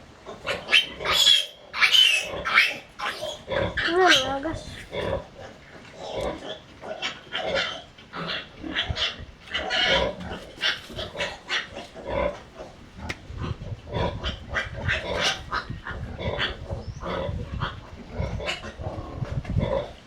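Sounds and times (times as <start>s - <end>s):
animal grunts and squeals: 0.3s - 20.0s.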